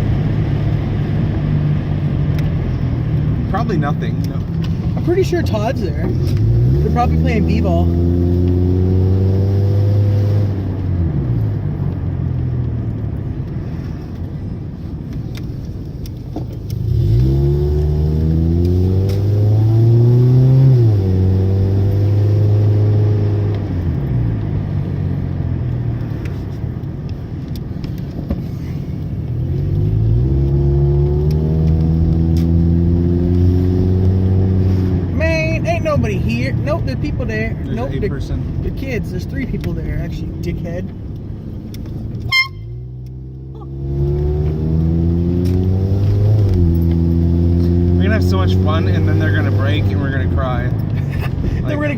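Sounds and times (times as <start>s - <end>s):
car engine from inside cabin: 0.0s - 51.9s.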